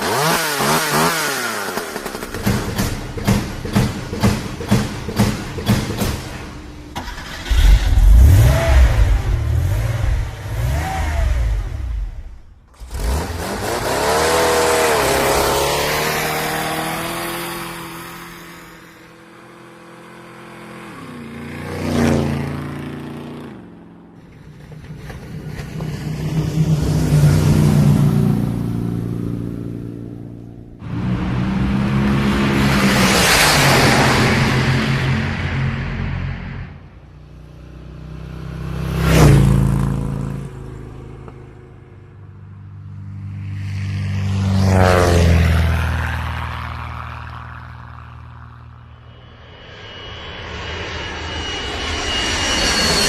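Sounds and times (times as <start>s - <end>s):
vehicle engines revving: 0.0s - 49.1s.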